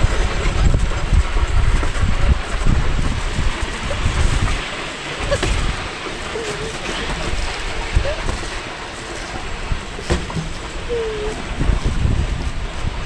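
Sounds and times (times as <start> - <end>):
toboggan sliding on paved road: 0.0 - 13.0
wind buffeting microphone: 0.0 - 13.0.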